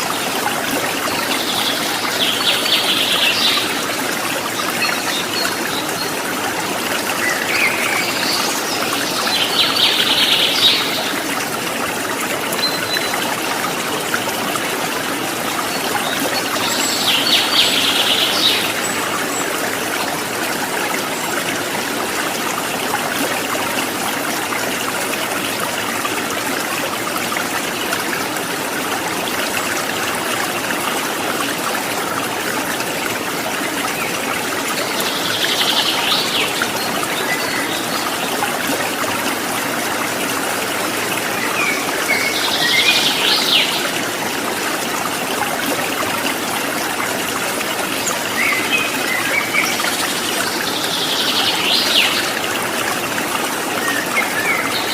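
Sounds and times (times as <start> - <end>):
water trickling and gurgling: 0.0 - 54.9.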